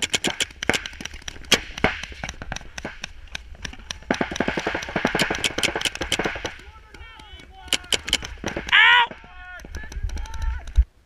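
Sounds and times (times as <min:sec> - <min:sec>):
paintball markers firing: 0:00.0 - 0:10.8.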